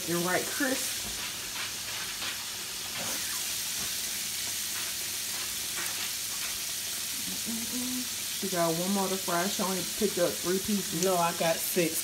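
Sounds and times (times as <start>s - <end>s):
fish sizzling in hot oil: 0.0s - 12.0s
oil crackles: 0.0s - 12.0s.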